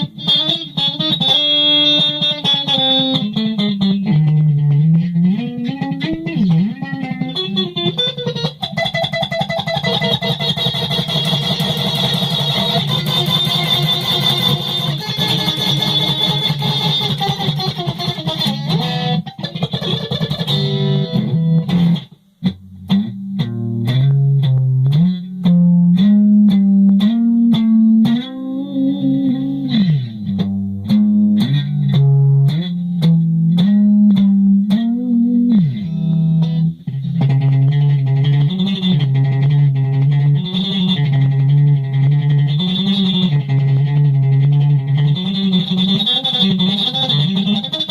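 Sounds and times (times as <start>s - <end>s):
solo guitar plucked notes: 0.0s - 47.9s.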